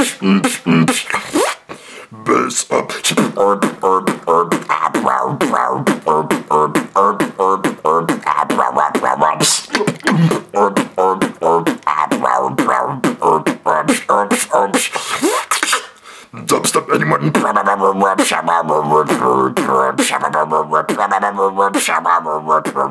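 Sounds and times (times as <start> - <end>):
person beatboxing: 0.0 - 22.9.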